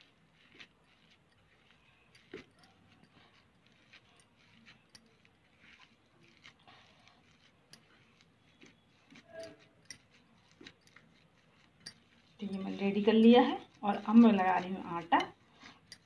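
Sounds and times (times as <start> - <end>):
hand mashing potato in a pan: 0.0 - 16.0.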